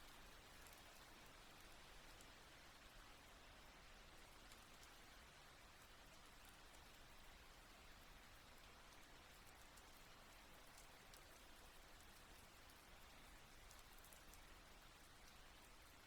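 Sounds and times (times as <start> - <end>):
soft steady rain: 0.0 - 16.0.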